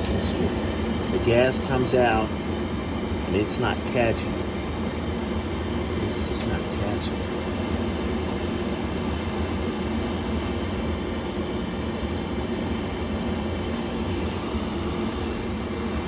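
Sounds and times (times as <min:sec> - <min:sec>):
gas furnace hum and rush: 0:00.0 - 0:16.0.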